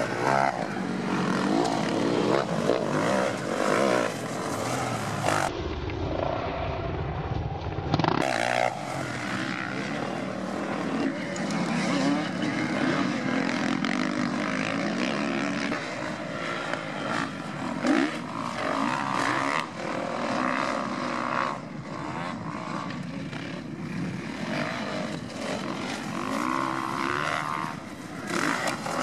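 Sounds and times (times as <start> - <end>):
motocross bike engines revving: 0.0 - 7.0, 7.8 - 29.0.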